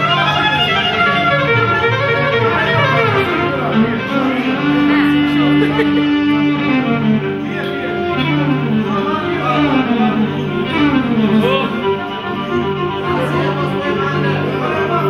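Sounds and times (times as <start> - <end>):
amplified violin melody: 0.0 - 15.0.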